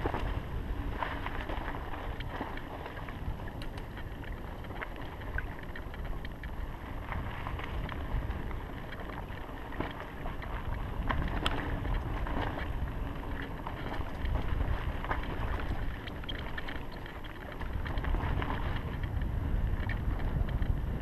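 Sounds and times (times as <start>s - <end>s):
bike clicks and rattles: 0.0s - 21.0s
bike tyre noise: 0.0s - 21.0s
wind on microphone: 0.0s - 21.0s.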